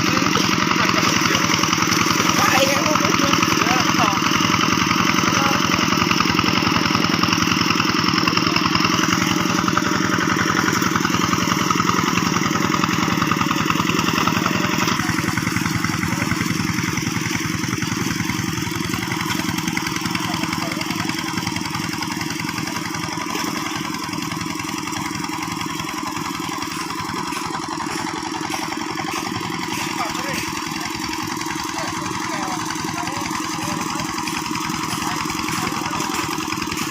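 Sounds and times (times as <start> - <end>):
diesel engine chugging: 0.0 - 36.9.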